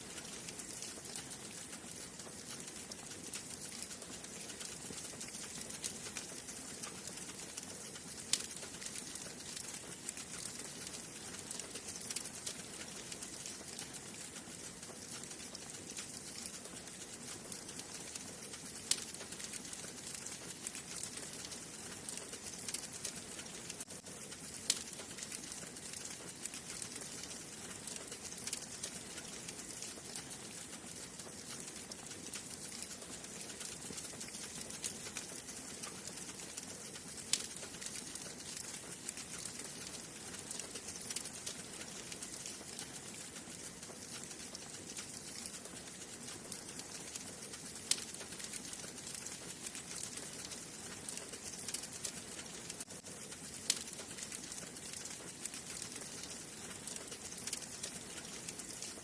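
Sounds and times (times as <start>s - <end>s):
wood fire crackling and hissing: 0.0s - 59.0s.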